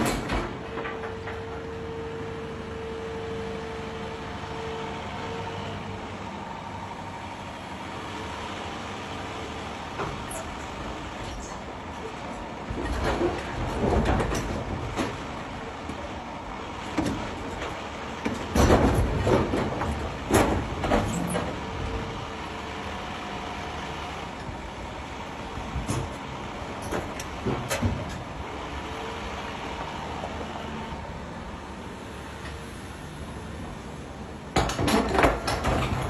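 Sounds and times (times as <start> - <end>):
excavator running: 0.0 - 36.0.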